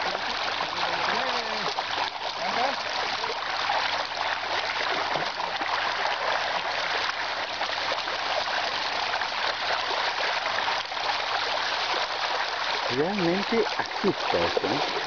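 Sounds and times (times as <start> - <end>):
fish splashing at water surface: 0.0 - 15.0.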